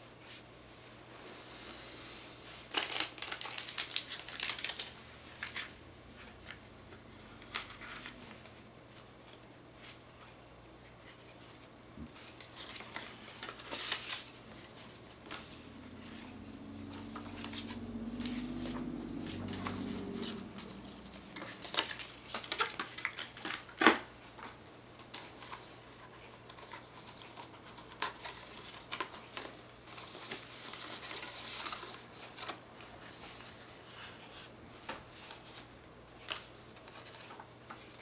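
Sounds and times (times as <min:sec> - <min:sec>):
paper and cardboard rustling: 0:02.5 - 0:10.4, 0:11.0 - 0:38.0.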